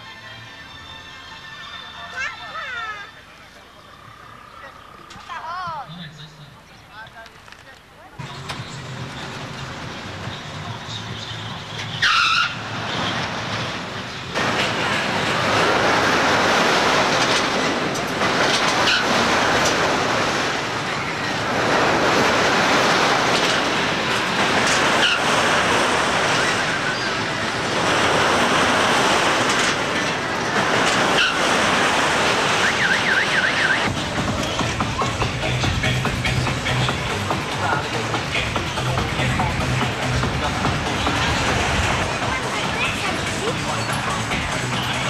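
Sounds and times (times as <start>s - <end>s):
funfair ride rushing noise: 0.0s - 45.0s.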